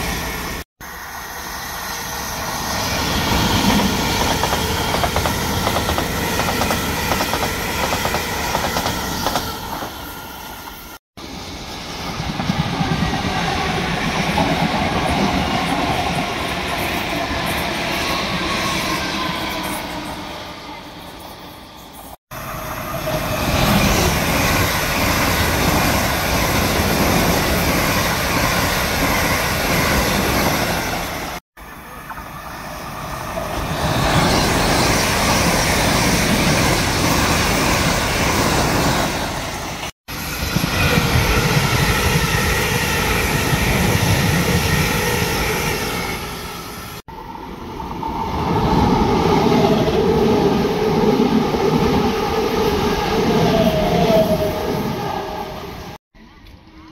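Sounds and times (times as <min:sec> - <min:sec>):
electric trains rushing past: 0:00.0 - 0:56.0.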